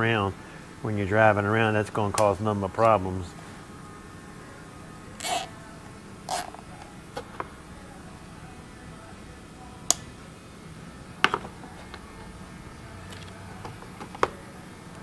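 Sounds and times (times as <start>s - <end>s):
low shop hum: 0.0s - 15.0s.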